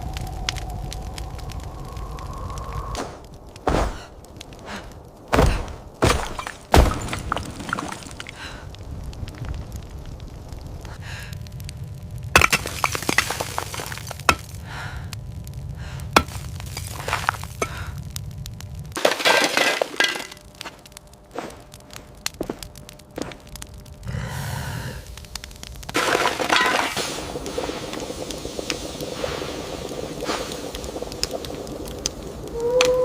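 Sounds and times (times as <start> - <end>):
low rumble: 0.0 - 6.0, 6.9 - 19.0, 20.2 - 33.0
sharp cracking and crunching: 0.0 - 33.0.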